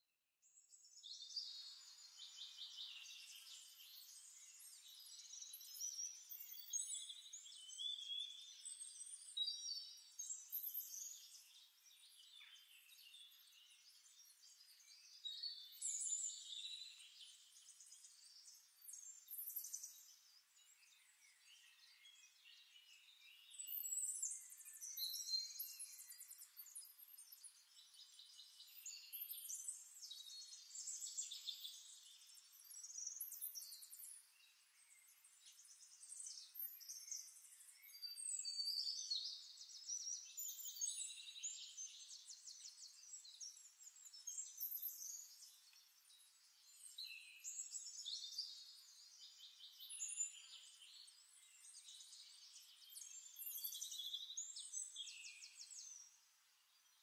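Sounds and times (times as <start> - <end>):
high-pitched birdsong trills: 1.1 - 56.2.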